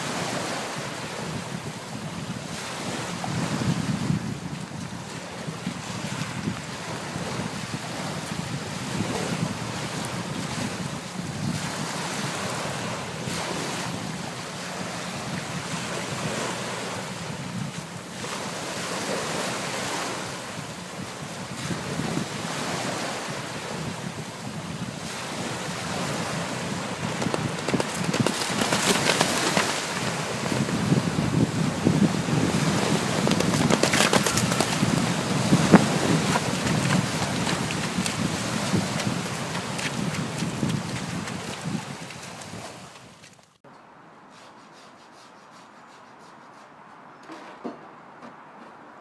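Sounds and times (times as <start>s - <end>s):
small waves breaking on shore: 0.0s - 43.2s
wind buffeting microphone: 0.0s - 43.2s.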